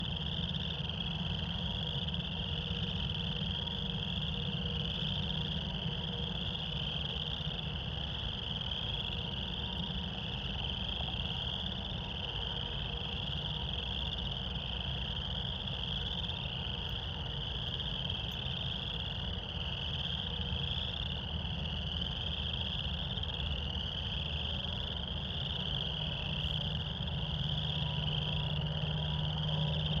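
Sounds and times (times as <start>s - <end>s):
chorus of frogs calling: 0.0s - 30.0s
low steady rumble: 0.0s - 30.0s.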